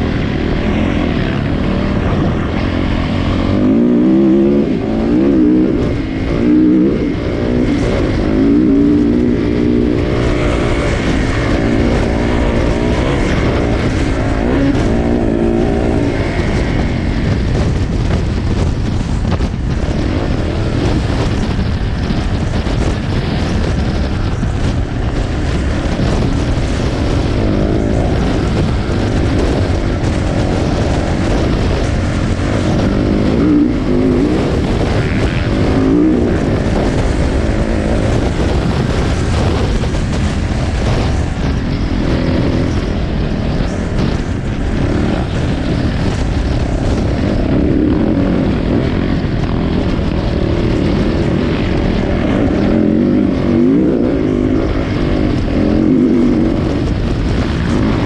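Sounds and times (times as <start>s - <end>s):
motorcycle engine revving: 0.0s - 58.0s
steady rushing noise: 0.0s - 58.0s.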